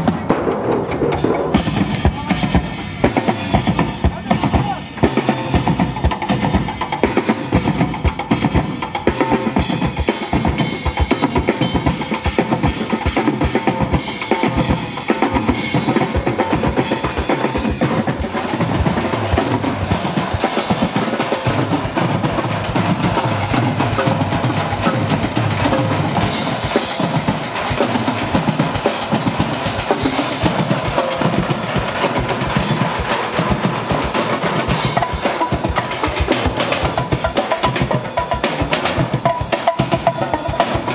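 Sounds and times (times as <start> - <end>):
percussion ensemble drumming: 0.0 - 40.9.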